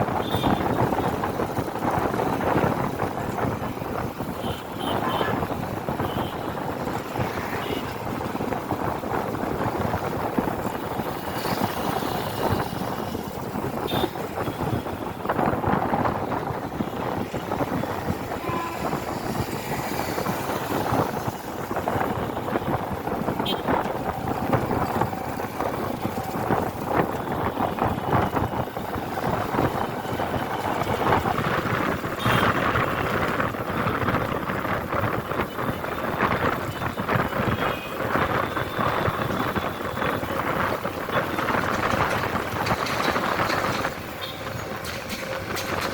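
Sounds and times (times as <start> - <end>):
road noise: 0.0 - 45.9
wind buffeting microphone: 0.0 - 45.9.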